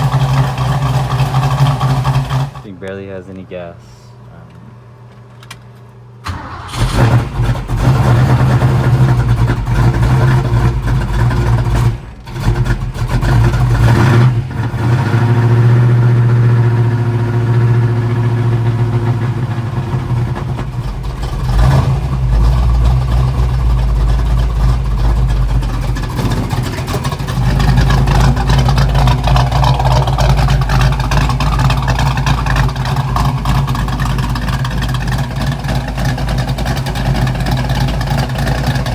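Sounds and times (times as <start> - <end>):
engine running loud: 0.0 - 2.7, 6.3 - 38.9.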